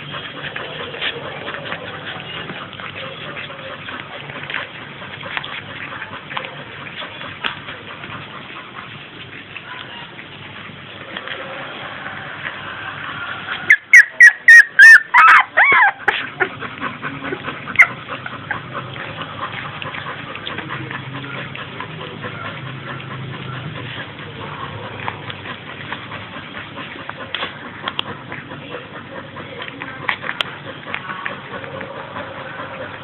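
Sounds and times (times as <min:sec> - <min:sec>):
puppies yelping and whimpering: 0:00.0 - 0:10.6, 0:11.6 - 0:33.0.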